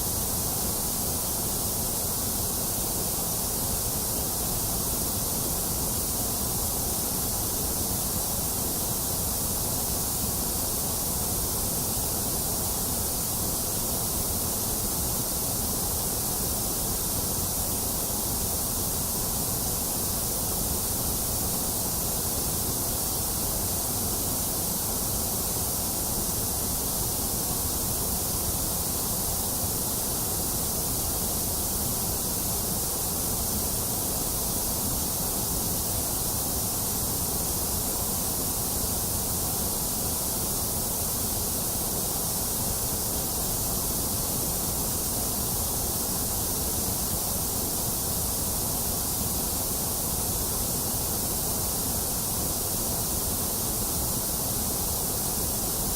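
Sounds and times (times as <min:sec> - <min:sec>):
white noise hiss: 0:00.0 - 0:55.9.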